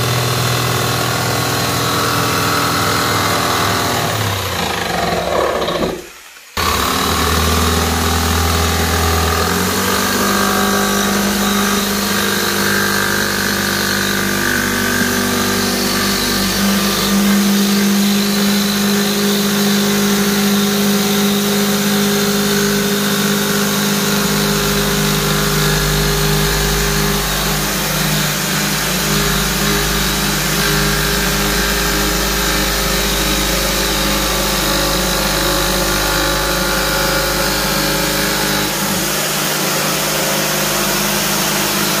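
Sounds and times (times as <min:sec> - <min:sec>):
jigsaw cutting plastic: 0:00.0 - 0:42.0.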